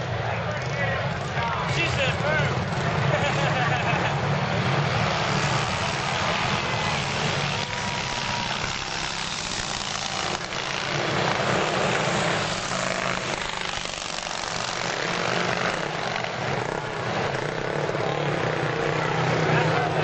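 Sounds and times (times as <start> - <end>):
racing motorcycle engines: 0.0 - 20.0.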